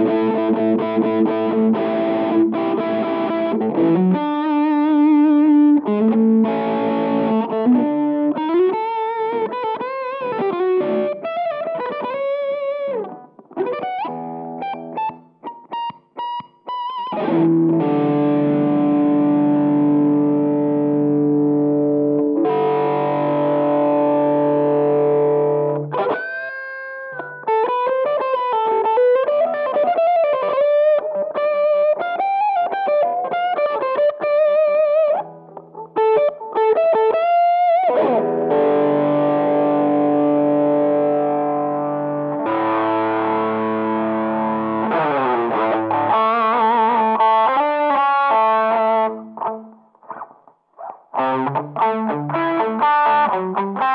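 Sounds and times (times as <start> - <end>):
distorted electric guitar: 0.0 - 53.9.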